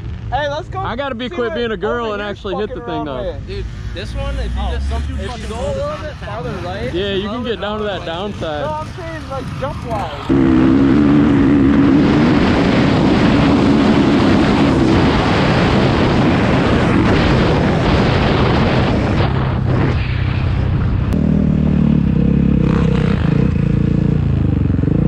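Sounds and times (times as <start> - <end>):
dirt bike engine running: 3.6 - 25.0.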